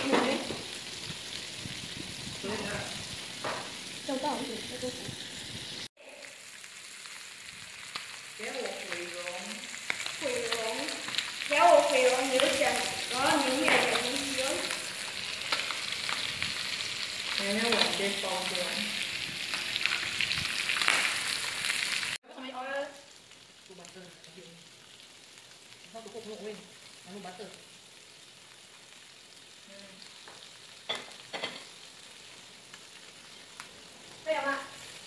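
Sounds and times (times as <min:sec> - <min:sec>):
meat sizzling on grill: 0:00.0 - 0:35.0.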